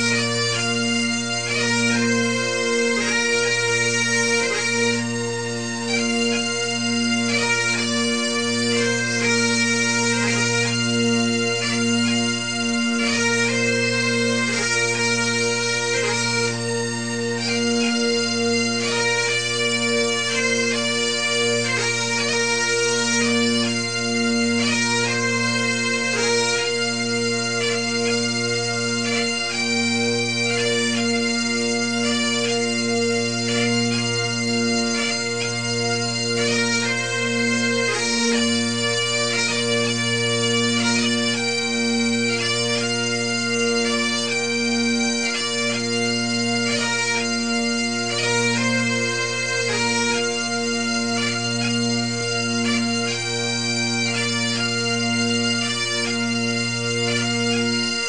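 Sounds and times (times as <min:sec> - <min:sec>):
bagpipe tune: 0:00.0 - 0:58.0.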